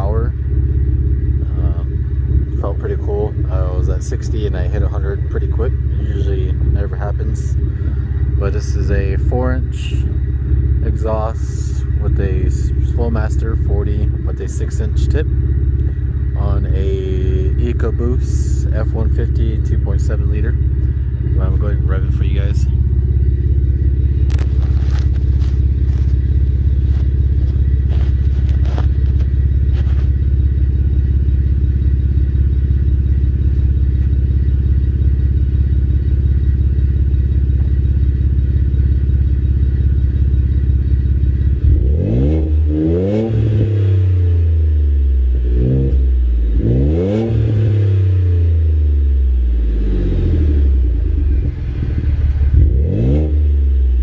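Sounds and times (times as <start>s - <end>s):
truck engine idling and revving: 0.0s - 54.0s.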